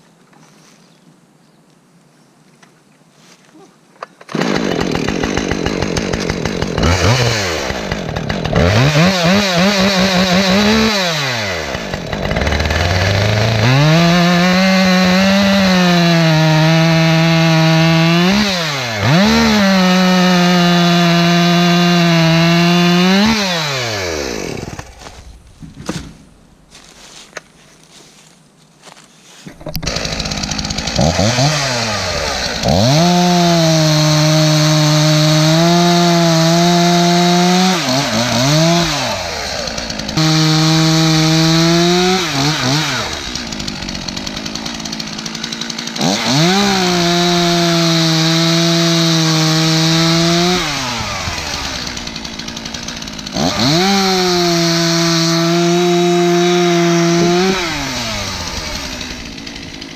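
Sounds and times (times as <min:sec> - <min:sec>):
chainsaw cutting logs: 0:04.2 - 0:59.9.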